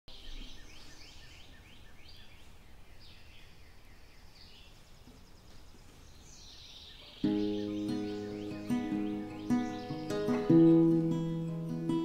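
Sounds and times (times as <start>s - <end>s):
birds singing: 0.1s - 12.0s.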